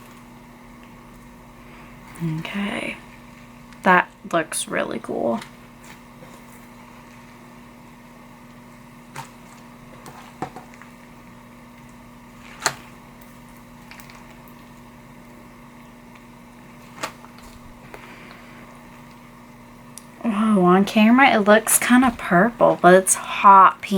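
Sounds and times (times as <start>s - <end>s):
faint hum: 0.0s - 23.9s.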